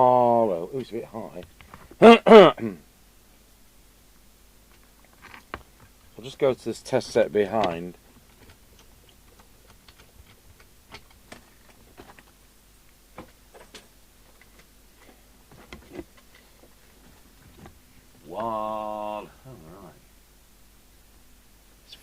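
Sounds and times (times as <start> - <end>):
low mains hum: 0.0 - 22.0.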